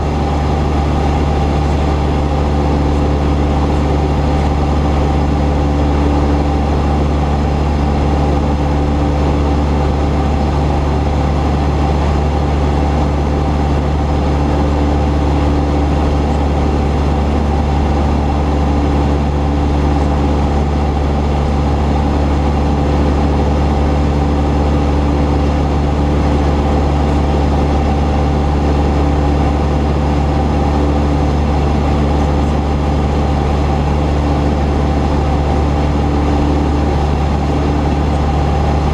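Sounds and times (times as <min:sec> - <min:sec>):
propeller plane engine: 0:00.0 - 0:38.9.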